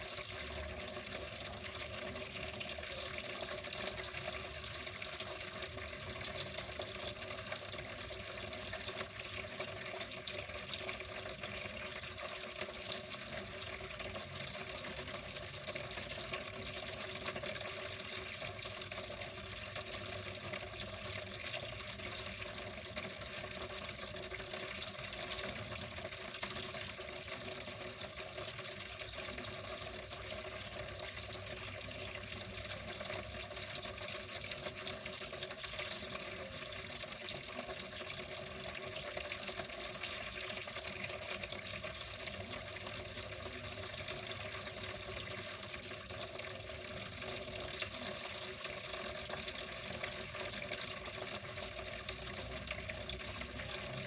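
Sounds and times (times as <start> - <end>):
water flowing: 0.0 - 54.0.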